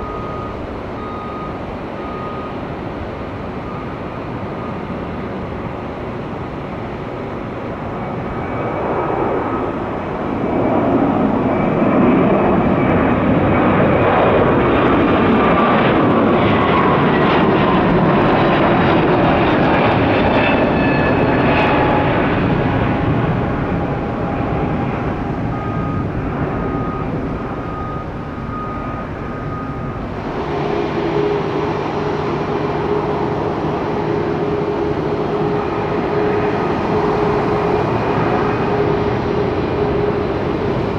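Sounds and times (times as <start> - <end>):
jet engine whine falling in pitch: 0.0 - 40.9
jet engines roaring on takeoff: 0.0 - 40.9
taxiing jet engine hum: 0.0 - 40.9.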